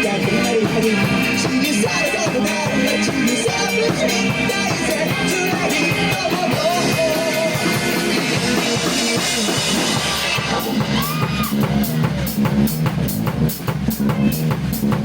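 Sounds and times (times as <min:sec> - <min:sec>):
bass line: 0:00.0 - 0:15.0
drum kit beat: 0:00.0 - 0:15.0
live band playing: 0:00.0 - 0:15.0.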